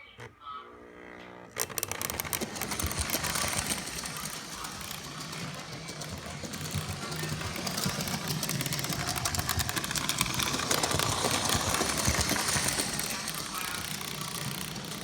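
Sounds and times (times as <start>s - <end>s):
model train motor humming: 0.6s - 15.0s
fast clicking rattle: 1.6s - 15.0s.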